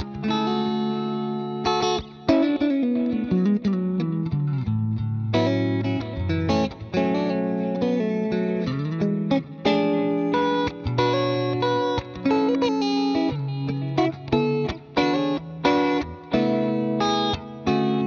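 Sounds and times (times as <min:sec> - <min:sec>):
electric guitar: 0:00.0 - 0:18.0.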